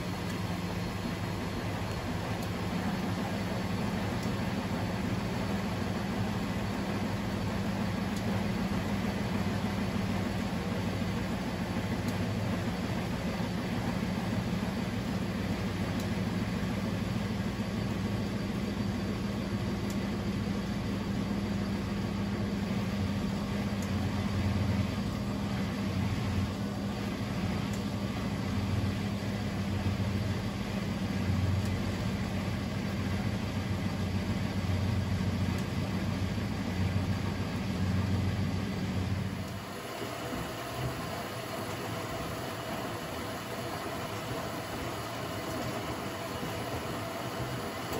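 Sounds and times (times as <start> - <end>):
washing machine motor hum: 0.0 - 47.9.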